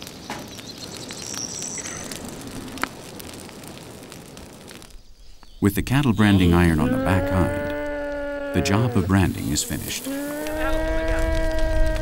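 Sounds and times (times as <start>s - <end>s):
fire popping: 0.0s - 12.0s
wood fire crackling and hissing: 0.0s - 12.0s.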